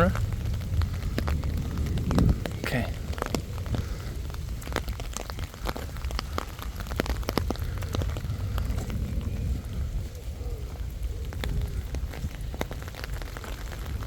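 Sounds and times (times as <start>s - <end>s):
rain drops on an umbrella: 0.0s - 14.0s
steady low rumble: 0.0s - 14.0s.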